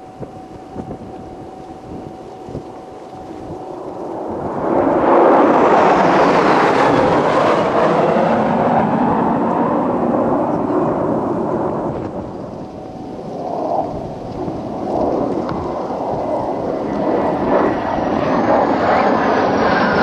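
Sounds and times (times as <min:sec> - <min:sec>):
fighter jet passing: 0:00.0 - 0:20.0
high jet whine: 0:00.0 - 0:20.0.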